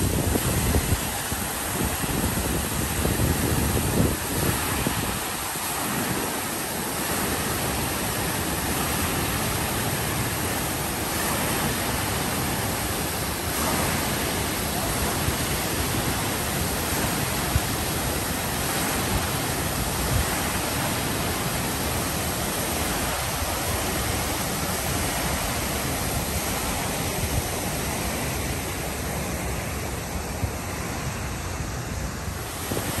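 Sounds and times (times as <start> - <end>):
fountain water rushing and splashing: 0.0 - 33.0.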